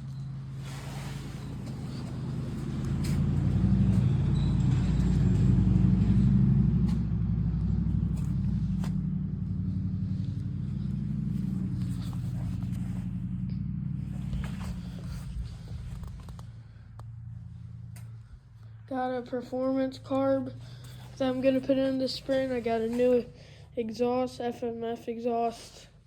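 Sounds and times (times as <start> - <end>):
vehicle engine running: 0.0 - 24.8.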